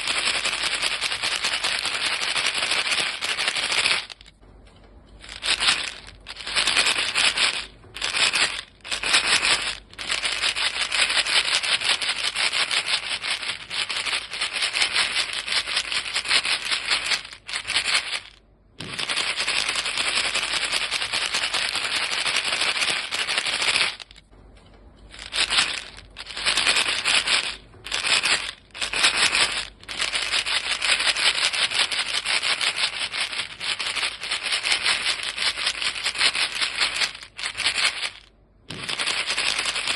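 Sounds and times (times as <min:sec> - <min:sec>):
gum pellets rattling in box: 0:00.0 - 0:04.4, 0:05.2 - 0:24.3, 0:25.1 - 0:39.9.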